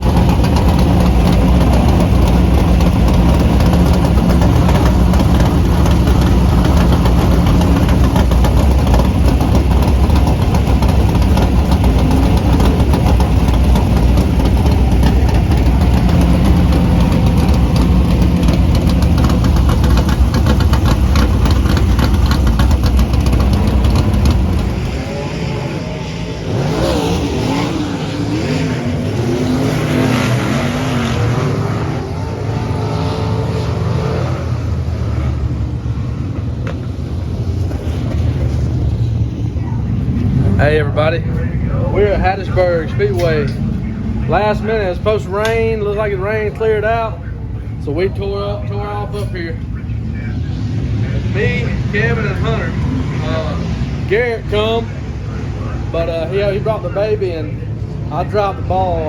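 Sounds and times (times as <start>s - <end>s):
cars revving: 0.0s - 59.0s
race car engine roaring: 0.0s - 59.0s.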